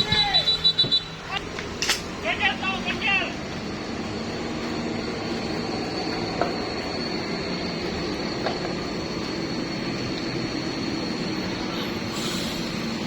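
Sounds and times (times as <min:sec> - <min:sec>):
heavy truck engine rumble: 0:00.0 - 0:13.0
high-pitched whine: 0:00.0 - 0:13.0.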